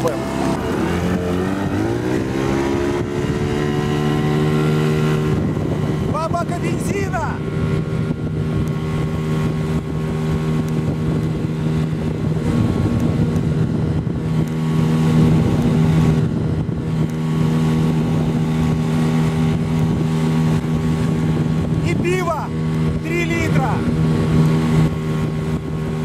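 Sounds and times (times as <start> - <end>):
outboard motor running hard: 0.0 - 26.0
water wash: 0.0 - 26.0
wind on microphone: 0.0 - 26.0.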